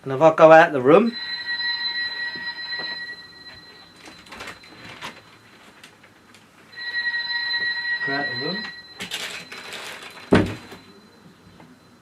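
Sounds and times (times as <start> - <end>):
toy telephone ring tone: 1.1 - 5.6, 6.8 - 12.0.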